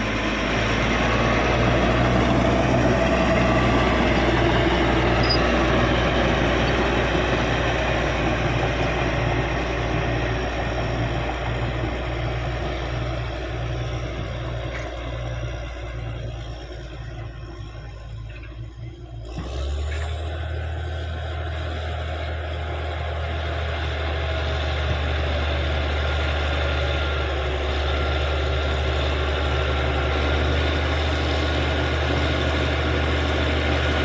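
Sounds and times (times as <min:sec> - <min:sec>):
bulldozer diesel engine under load: 0:00.0 - 0:34.0.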